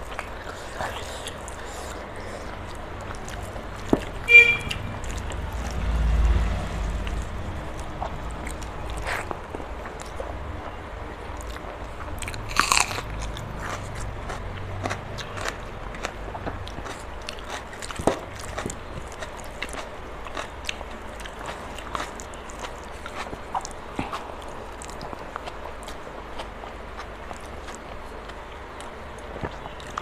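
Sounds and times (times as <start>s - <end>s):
chewing with crisp crunches: 0.0s - 30.0s.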